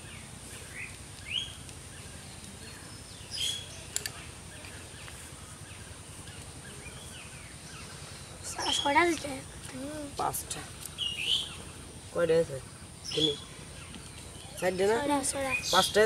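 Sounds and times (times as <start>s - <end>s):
birds chirping: 0.0s - 16.0s
outdoor background noise: 0.0s - 16.0s.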